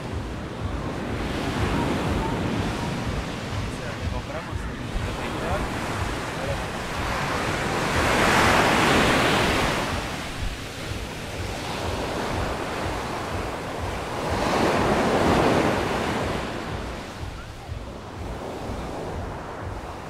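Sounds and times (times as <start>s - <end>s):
sea waves breaking: 0.0s - 20.0s
wind buffeting microphone: 0.0s - 20.0s.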